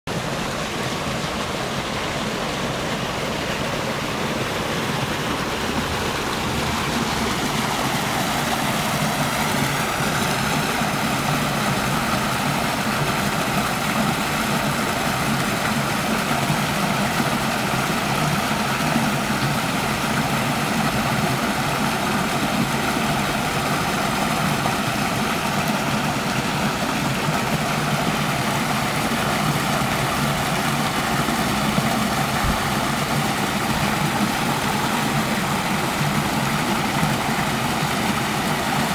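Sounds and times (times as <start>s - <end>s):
water rushing over rocks: 0.1s - 38.9s.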